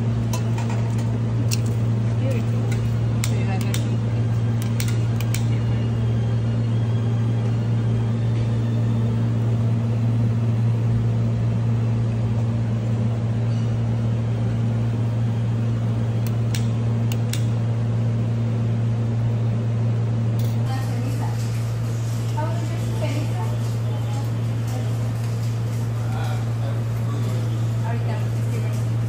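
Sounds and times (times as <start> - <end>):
range hood fan humming: 0.0 - 29.0.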